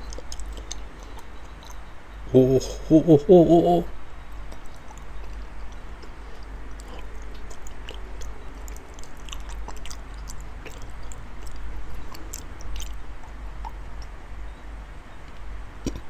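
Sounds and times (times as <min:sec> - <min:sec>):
man chewing wetly: 0:00.0 - 0:02.3, 0:04.2 - 0:16.0
steady low hum: 0:00.0 - 0:16.0.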